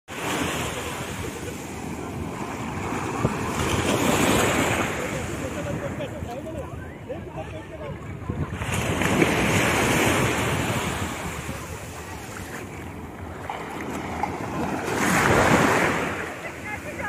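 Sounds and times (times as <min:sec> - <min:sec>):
sea waves breaking on shore: 0:00.1 - 0:17.0
wind buffeting microphone: 0:01.4 - 0:17.0.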